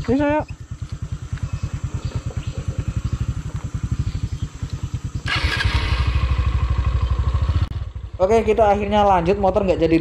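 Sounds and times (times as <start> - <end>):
motorcycle engine idling: 0.0 - 10.0
motorcycle engine revving: 0.0 - 10.0.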